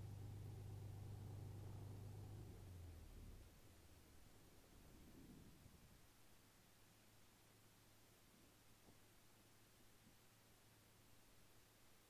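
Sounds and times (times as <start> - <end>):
steady low hum: 0.0 - 10.9
faint hiss: 0.0 - 12.0.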